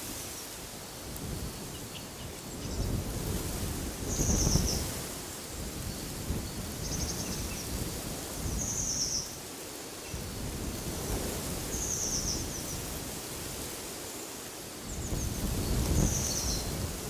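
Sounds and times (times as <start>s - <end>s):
wind noise: 0.0s - 17.0s.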